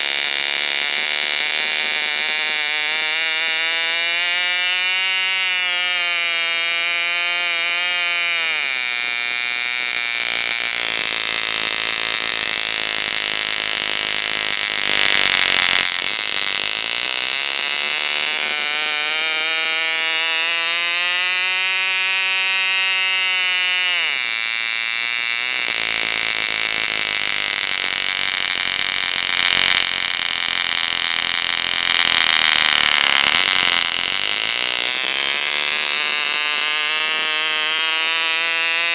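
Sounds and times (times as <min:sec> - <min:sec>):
model glow engine with propeller: 0:00.0 - 0:38.9.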